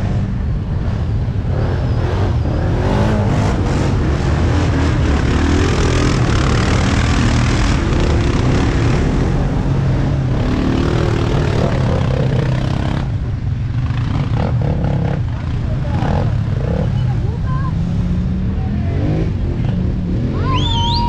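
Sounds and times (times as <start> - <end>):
off-road vehicle engines running: 0.0 - 21.0.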